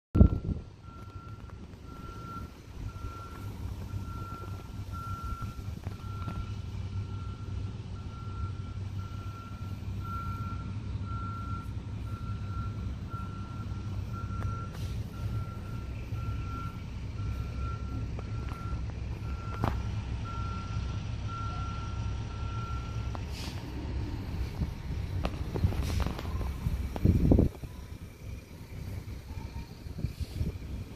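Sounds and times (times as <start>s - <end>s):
low engine rumble: 0.2s - 30.9s.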